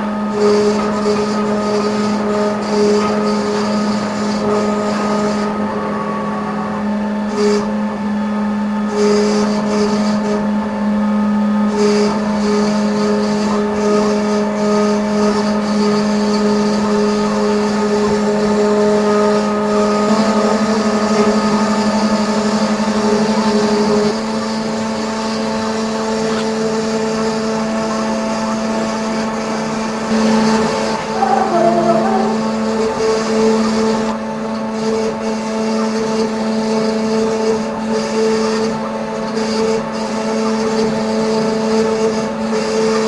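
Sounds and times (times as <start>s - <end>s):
milling machine spindle whining: 0.0s - 43.0s.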